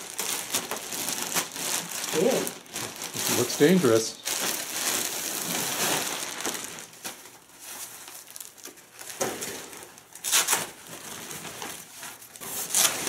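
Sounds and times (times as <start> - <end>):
packaging and paper rustling: 0.0 - 13.0.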